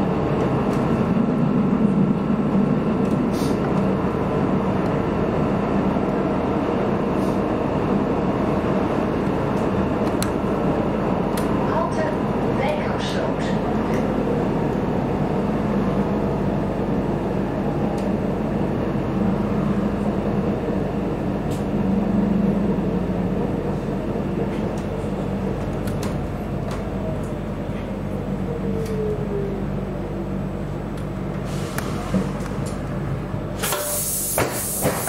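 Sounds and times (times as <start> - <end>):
vehicle running hum: 0.0 - 33.6.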